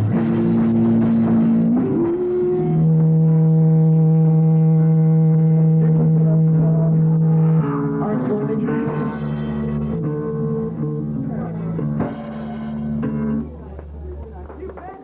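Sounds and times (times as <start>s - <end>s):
live rock band playing: 0.0s - 14.6s.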